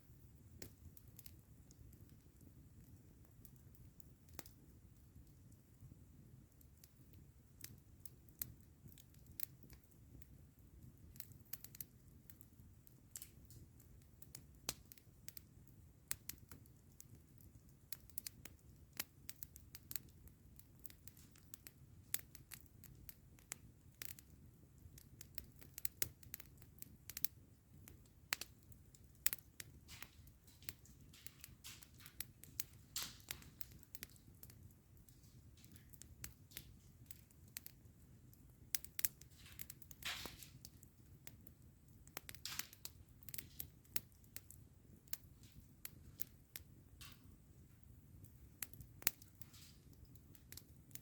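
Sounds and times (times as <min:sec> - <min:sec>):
campfire crackling and popping: 0:00.0 - 0:51.0.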